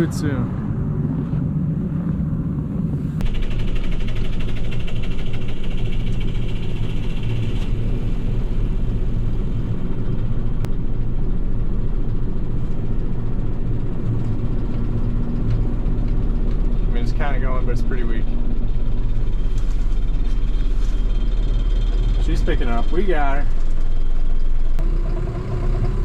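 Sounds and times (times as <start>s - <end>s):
diesel engine rumbling: 0.0s - 26.0s.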